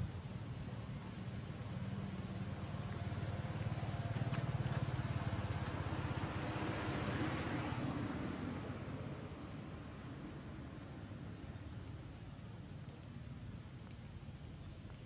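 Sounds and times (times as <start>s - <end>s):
passing vehicle engine rumble: 0.0s - 15.0s.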